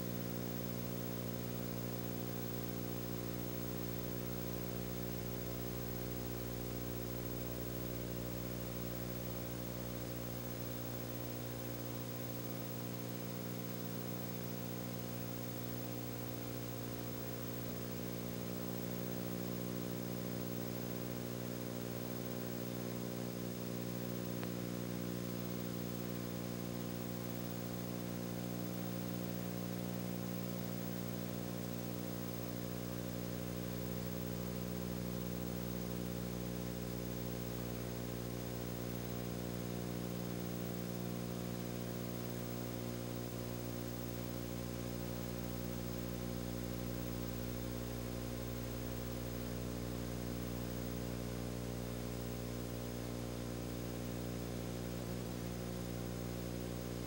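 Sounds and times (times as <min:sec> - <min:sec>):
low buzzing hum: 0:00.0 - 0:57.0.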